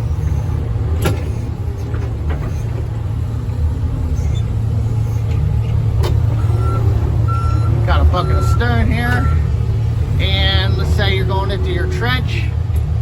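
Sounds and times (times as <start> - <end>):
backhoe diesel engine running: 0.0 - 13.0.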